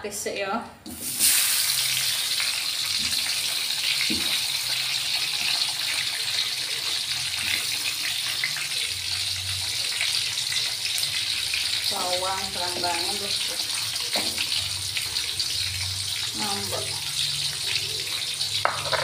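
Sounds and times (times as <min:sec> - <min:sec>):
vegetables sizzling in wok: 0:00.9 - 0:19.0.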